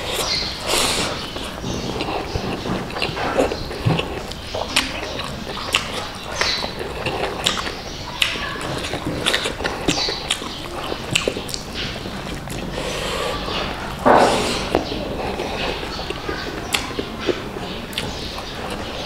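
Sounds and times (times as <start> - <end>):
man chewing and lip smacking: 0.0 - 19.0.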